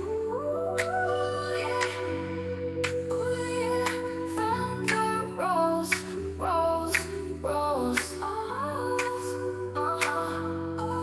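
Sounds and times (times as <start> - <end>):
sung vocal line: 0.0 - 11.0.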